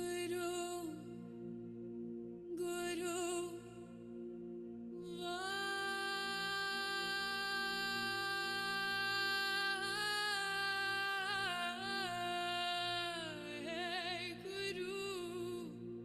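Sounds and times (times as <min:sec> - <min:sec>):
high sung melody: 0:00.0 - 0:16.0.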